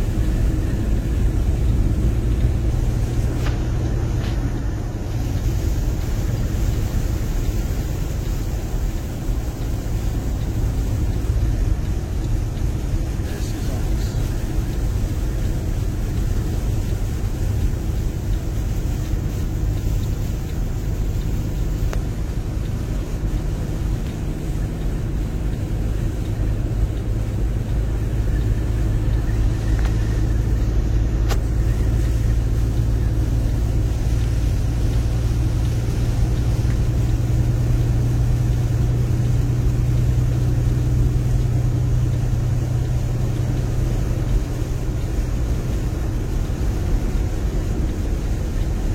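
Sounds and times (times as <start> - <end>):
vehicle engine and road drone: 0.0 - 48.9.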